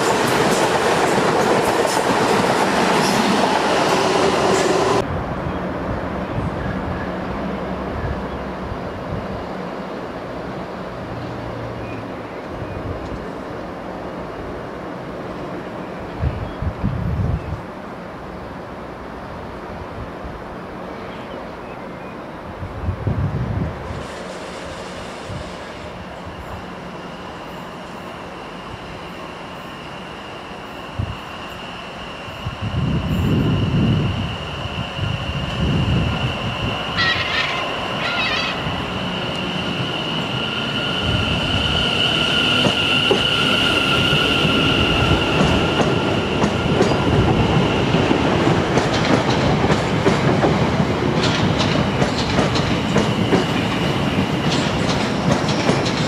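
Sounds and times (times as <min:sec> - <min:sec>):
train rumble: 0:00.0 - 0:17.8, 0:22.5 - 0:56.0
train high whine: 0:00.0 - 0:56.0.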